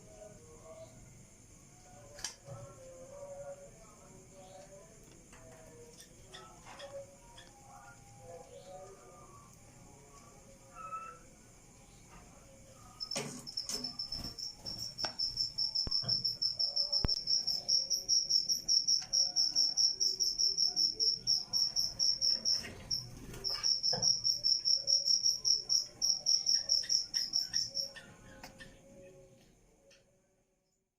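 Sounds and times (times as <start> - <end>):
cricket chirping: 0.0 - 30.9.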